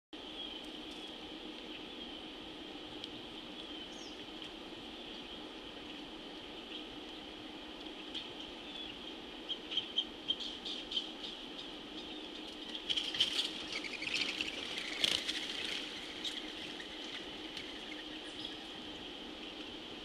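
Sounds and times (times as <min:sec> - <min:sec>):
small birds chirping: 0:02.9 - 0:19.7.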